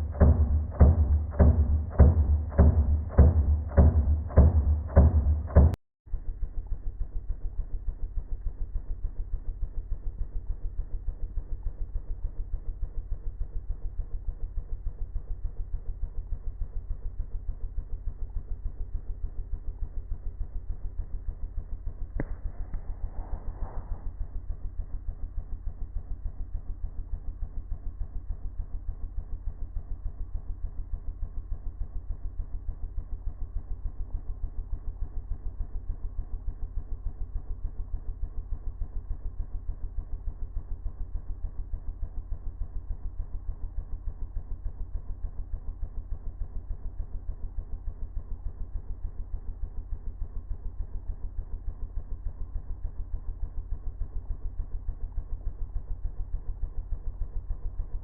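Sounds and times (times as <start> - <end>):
engine low chugging pulse: 0.0 - 58.0.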